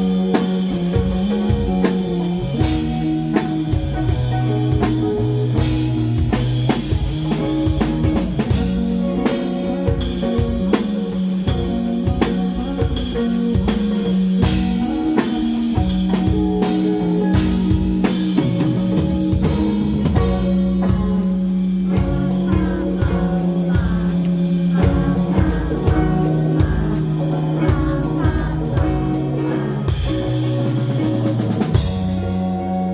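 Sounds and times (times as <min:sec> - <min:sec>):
drum kit beat: 0:00.0 - 0:32.9
guitar: 0:00.0 - 0:32.9
held bass notes: 0:00.0 - 0:32.9.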